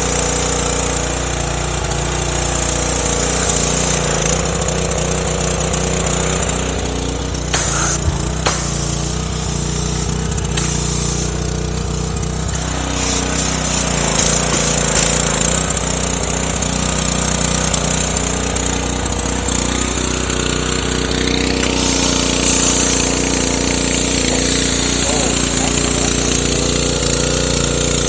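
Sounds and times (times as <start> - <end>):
pressure washer engine running: 0.0 - 28.0
water jets hissing: 1.9 - 28.0.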